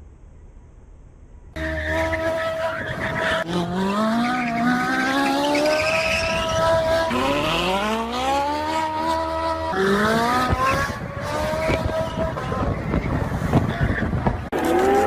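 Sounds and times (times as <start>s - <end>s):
car engine accelerating: 1.6s - 15.0s.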